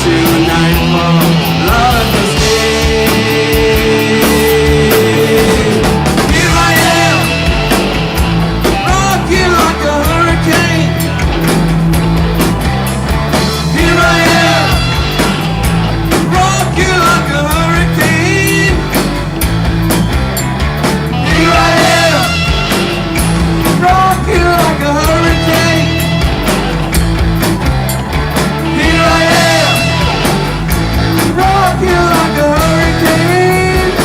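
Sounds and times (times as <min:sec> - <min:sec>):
live rock band playing: 0:00.0 - 0:34.0
pitch-bending guitar phrases: 0:00.0 - 0:34.0.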